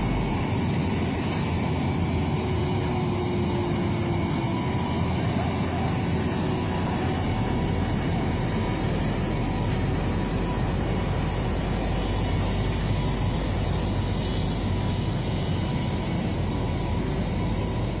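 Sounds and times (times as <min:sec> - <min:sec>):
heavy machinery engine rumble: 0:00.0 - 0:18.0.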